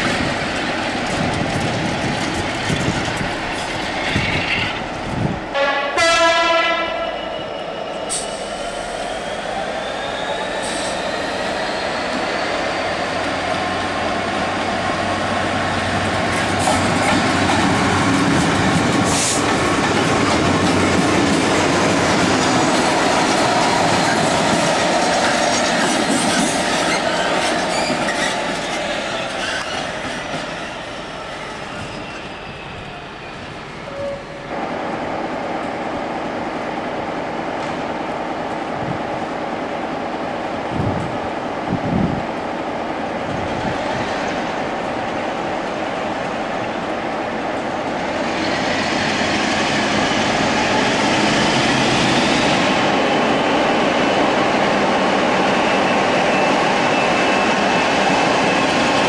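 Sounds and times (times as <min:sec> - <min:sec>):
diesel locomotives passing: 0:00.0 - 0:59.0.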